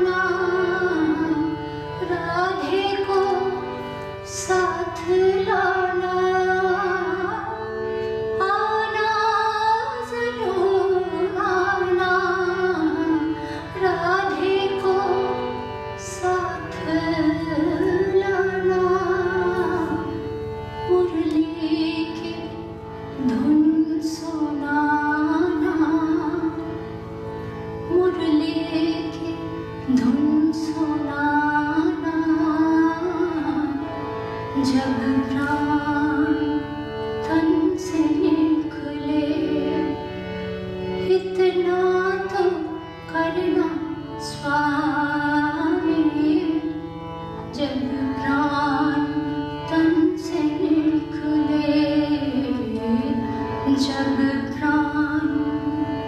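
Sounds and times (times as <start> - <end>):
woman singing: 0.0 - 26.7, 27.8 - 40.1, 41.0 - 46.8, 47.5 - 56.0
harmonium drone: 0.0 - 56.0
lap-held string instrument: 0.0 - 56.0.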